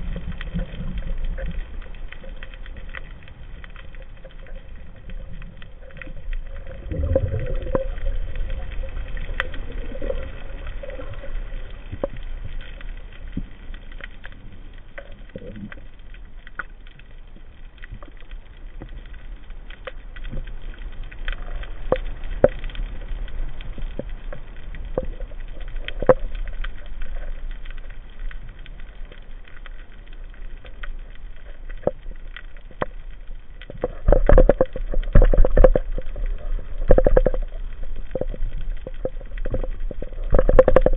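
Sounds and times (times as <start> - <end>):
muffled underwater rush: 0.0 - 40.9
sharp clicks and crackles: 0.0 - 40.9.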